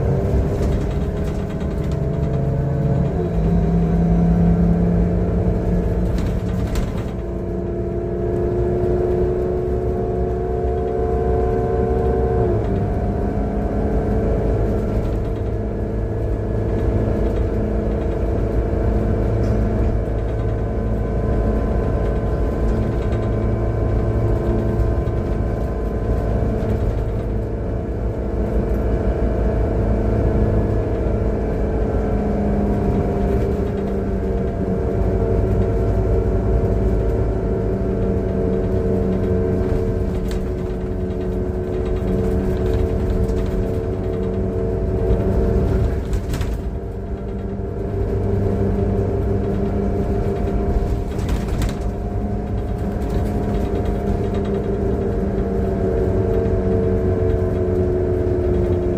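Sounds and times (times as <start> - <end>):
bus engine drone: 0.0 - 58.9.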